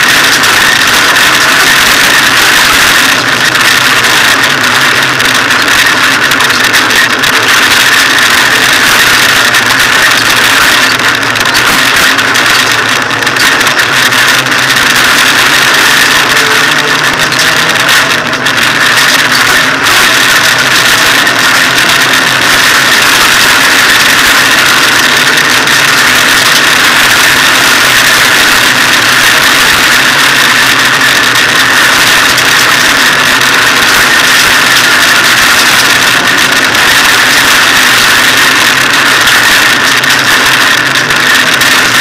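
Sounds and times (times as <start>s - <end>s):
car engine running: 0.0s - 42.0s
road and drivetrain noise: 0.0s - 42.0s.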